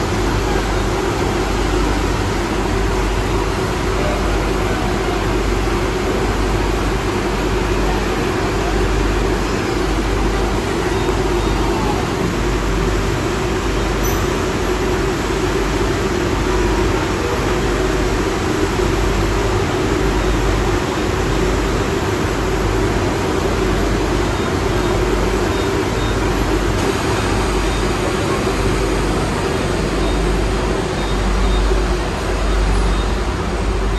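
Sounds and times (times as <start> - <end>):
ship machinery droning: 0.0 - 33.9.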